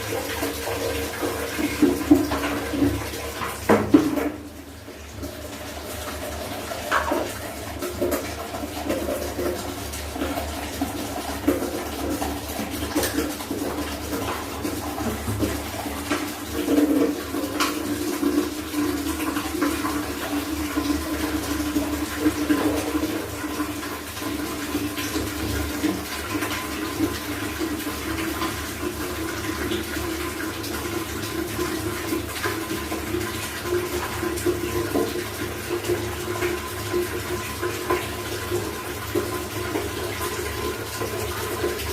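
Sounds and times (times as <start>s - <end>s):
water running and splashing: 0.0s - 41.9s.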